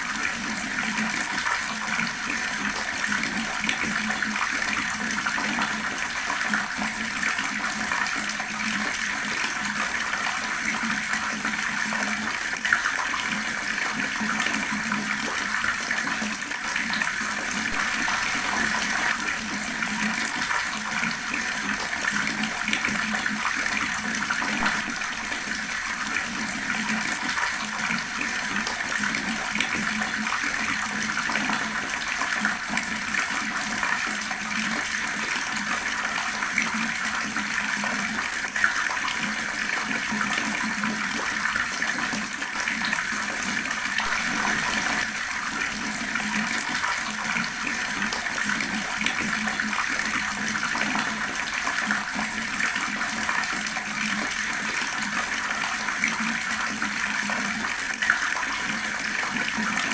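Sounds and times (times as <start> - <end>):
water running from a tap: 0.0 - 59.9.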